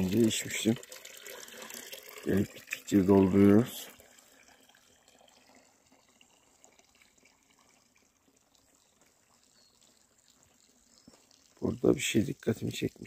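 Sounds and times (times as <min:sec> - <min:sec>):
water trickling into stone trough: 0:00.0 - 0:13.0.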